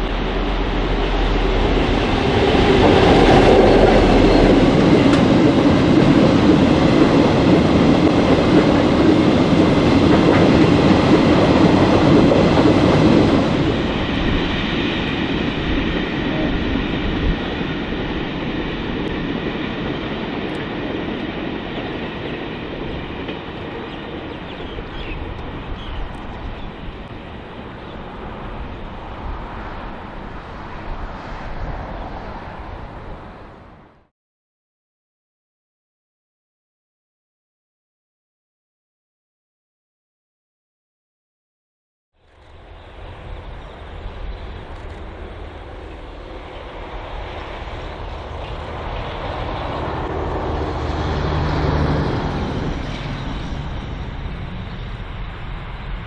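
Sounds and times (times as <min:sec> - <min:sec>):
diesel locomotive passing: 0:00.0 - 0:34.1, 0:42.2 - 0:56.0.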